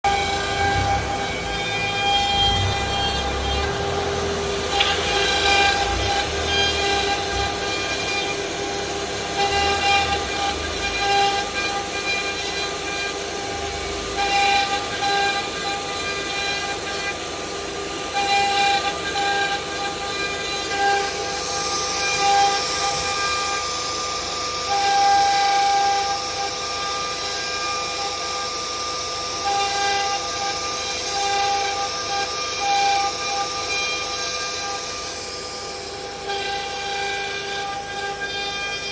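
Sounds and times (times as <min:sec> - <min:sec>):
cnc router whining: 0:00.0 - 0:38.9.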